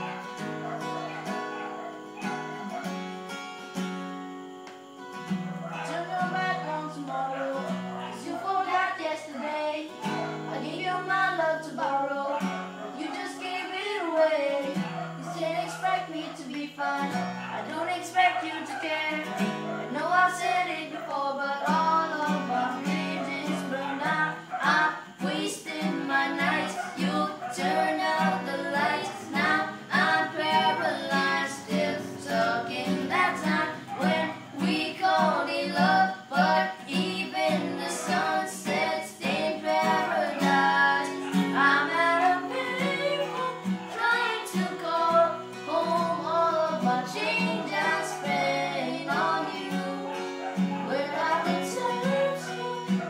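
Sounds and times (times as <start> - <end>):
acoustic guitar chords: 0.0 - 53.0
person singing: 5.8 - 53.0.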